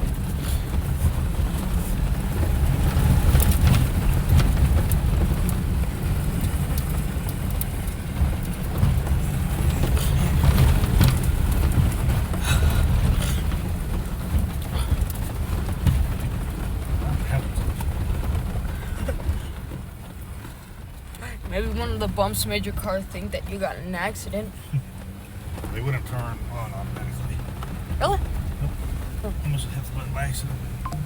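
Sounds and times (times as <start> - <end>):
clunks and rattles over bumps: 0.0 - 30.8
vehicle cabin rumble: 0.0 - 31.0.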